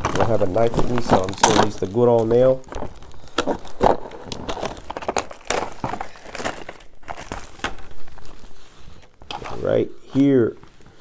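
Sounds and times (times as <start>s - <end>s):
plastic wrapping tearing and crinkling: 0.0s - 11.0s.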